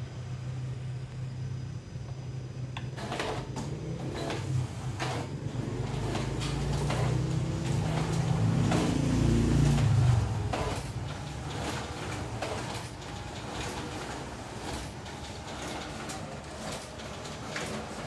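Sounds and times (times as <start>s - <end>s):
copier running: 0.0s - 18.0s
clicks of sheets feeding: 2.8s - 18.0s.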